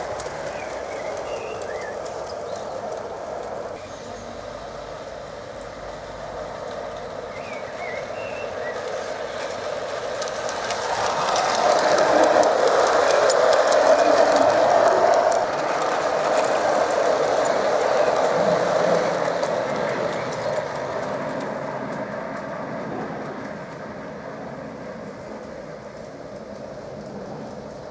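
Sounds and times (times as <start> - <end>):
model train wheels rumbling: 0.0 - 27.9
wheels clicking over rail joints: 0.0 - 27.9.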